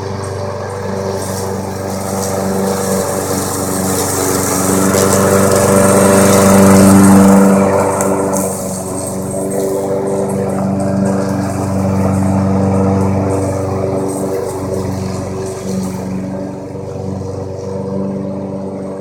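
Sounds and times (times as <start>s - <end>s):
remote-control lawn mower running: 0.0s - 19.0s.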